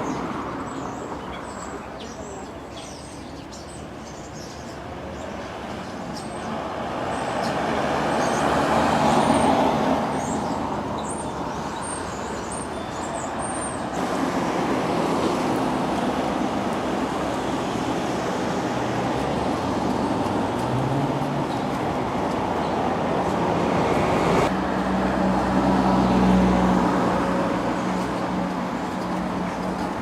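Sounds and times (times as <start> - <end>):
steady traffic noise: 0.0 - 30.0.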